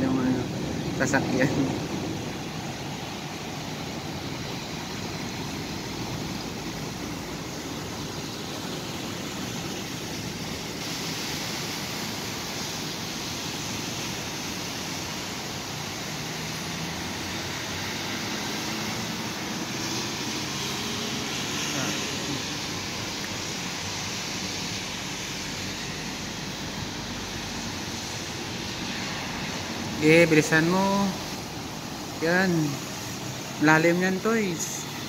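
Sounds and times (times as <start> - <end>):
heavy rain: 0.0 - 35.0
traffic driving through floodwater: 0.0 - 35.0.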